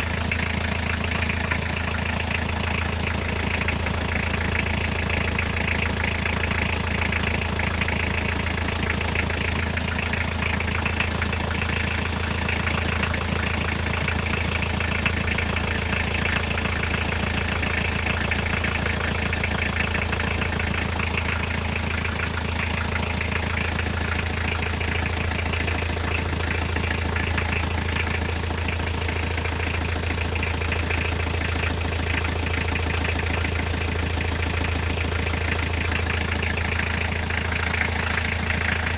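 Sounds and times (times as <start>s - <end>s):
car engine idling: 0.0s - 38.9s
fast tapping engine knock: 0.0s - 38.9s.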